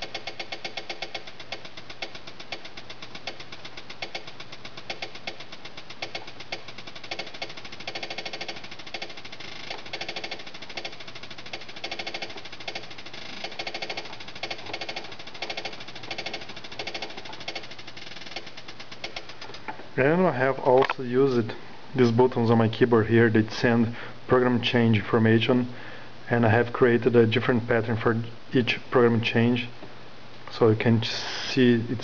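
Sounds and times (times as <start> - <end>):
electronic drum pattern: 0.0 - 29.8, 30.6 - 32.0.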